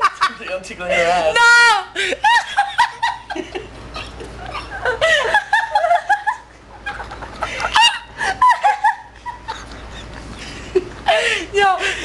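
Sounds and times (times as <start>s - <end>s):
young people laughing: 0.0s - 12.0s.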